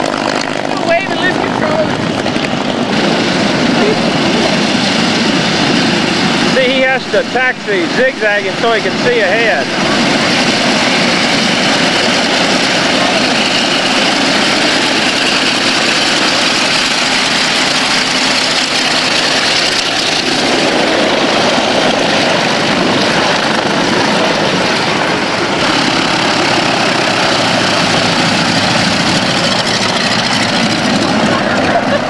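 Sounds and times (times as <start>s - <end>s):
propeller aircraft engine running: 0.0s - 32.0s.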